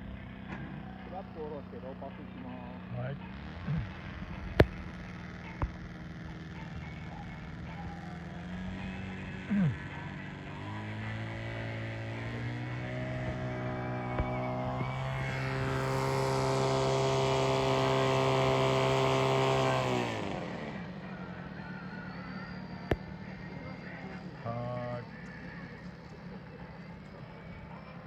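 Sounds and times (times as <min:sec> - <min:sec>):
model jet engines whining: 0:00.0 - 0:28.0.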